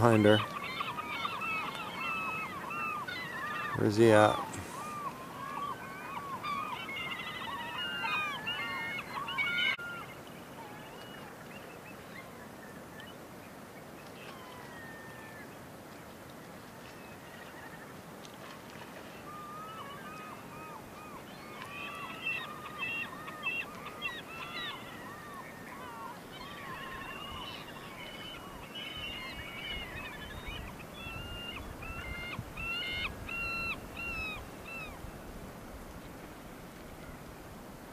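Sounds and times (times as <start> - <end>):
birds calling: 0.0 - 13.2, 16.9 - 35.0
faint steady hiss: 0.0 - 37.9.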